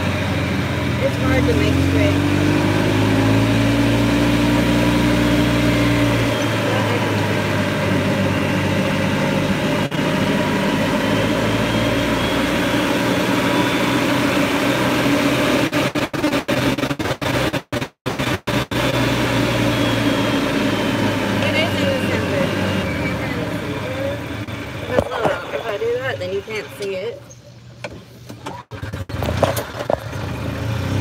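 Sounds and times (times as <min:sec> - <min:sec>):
golf cart motor hum: 0:00.0 - 0:16.8, 0:18.2 - 0:27.2, 0:27.8 - 0:31.0.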